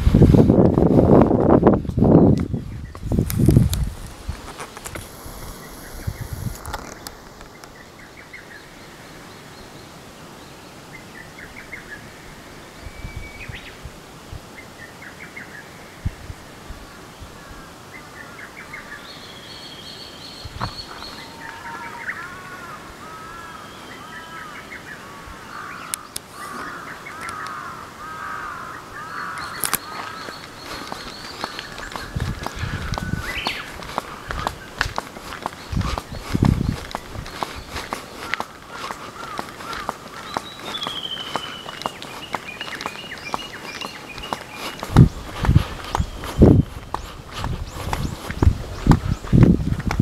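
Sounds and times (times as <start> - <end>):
birds chirping: 0.6 - 13.9, 16.8 - 50.0.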